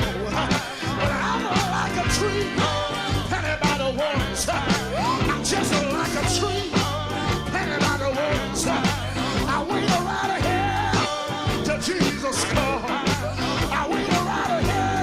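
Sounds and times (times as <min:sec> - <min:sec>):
band with bass and drums: 0:00.0 - 0:15.0
lead vocal singing: 0:00.0 - 0:15.0.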